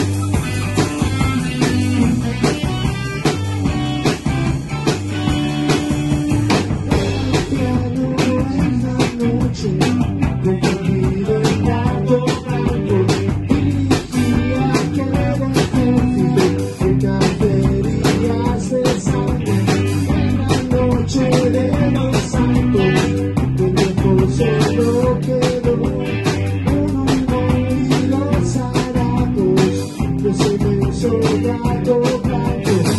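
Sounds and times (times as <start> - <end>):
drum kit steady beat: 0.0 - 32.9
electric guitars: 0.0 - 32.9.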